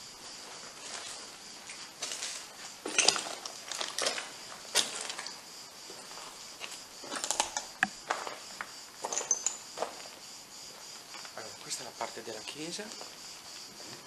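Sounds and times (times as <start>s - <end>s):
night insects chirring: 0.0s - 14.0s
footsteps crunching on rubble: 0.3s - 14.0s.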